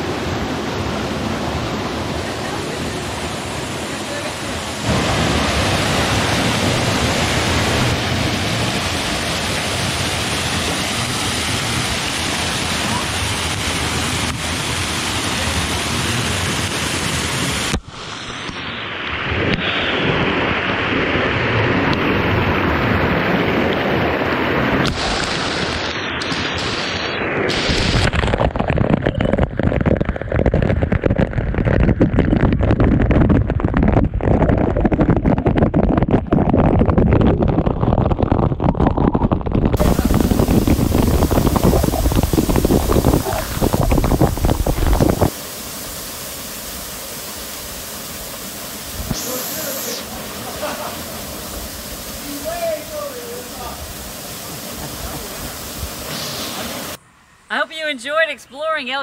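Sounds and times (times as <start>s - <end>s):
waterfall pouring into pool: 0.0s - 57.0s
water splashing on microphone: 2.2s - 57.0s.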